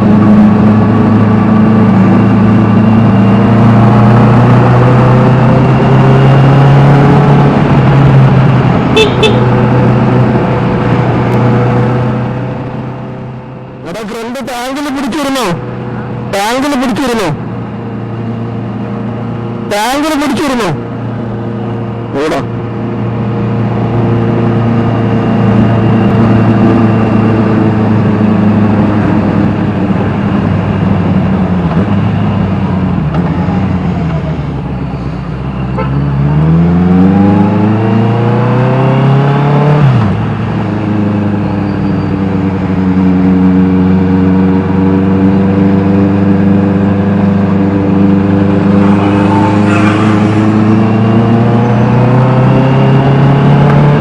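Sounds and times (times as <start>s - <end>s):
motorcycle engine revving: 0.0s - 34.6s, 35.6s - 54.0s.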